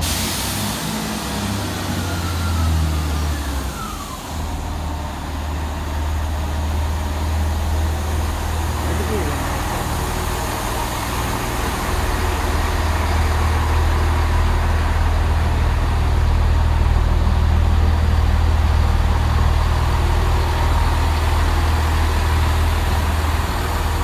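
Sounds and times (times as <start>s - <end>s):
diesel train engine drone: 0.0s - 24.0s.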